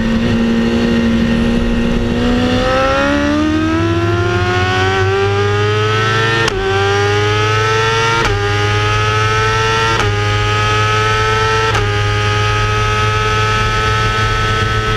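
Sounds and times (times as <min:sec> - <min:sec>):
race car engine accelerating: 0:00.0 - 0:14.9.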